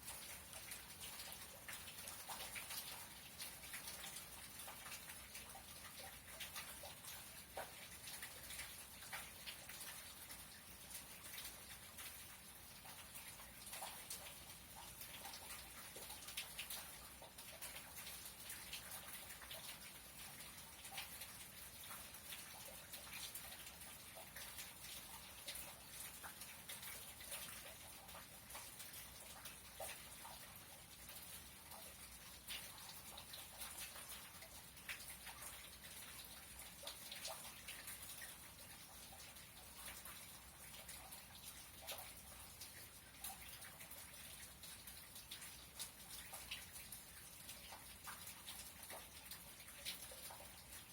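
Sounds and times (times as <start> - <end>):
faint steady rain hiss: 0.0 - 50.9
raindrops ticking: 0.0 - 50.9.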